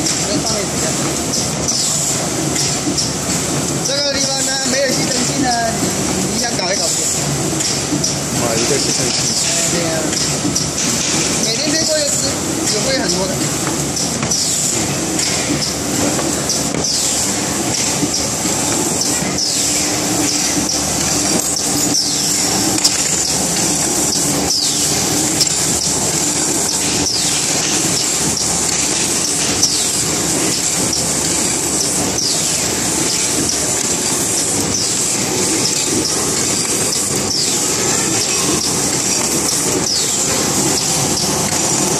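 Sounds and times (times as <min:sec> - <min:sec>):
machine clattering: 0:00.0 - 0:41.9.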